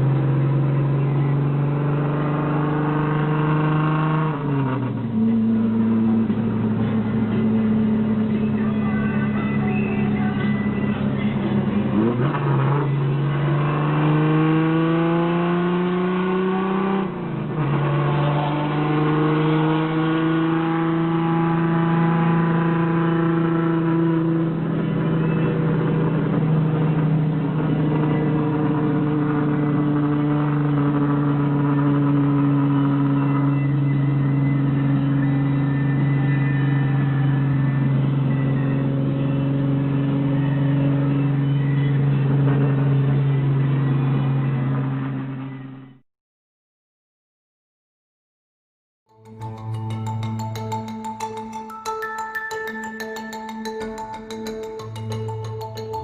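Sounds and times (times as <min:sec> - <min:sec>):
car engine accelerating through gears: 0:00.0 - 0:10.1, 0:10.8 - 0:45.9.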